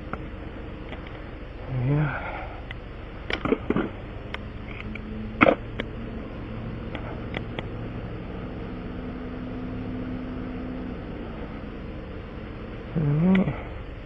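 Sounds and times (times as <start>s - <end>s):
small motor humming: 0.0s - 14.0s.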